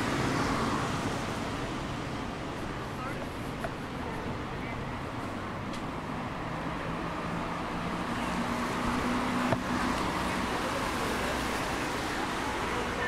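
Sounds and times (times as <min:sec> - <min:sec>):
city street traffic: 0:00.0 - 0:13.0
vehicle engine hum: 0:00.0 - 0:13.0.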